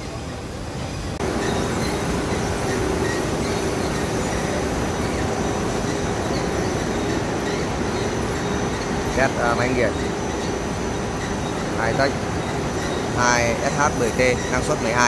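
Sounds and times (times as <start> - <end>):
industrial shredder running: 1.2 - 15.0.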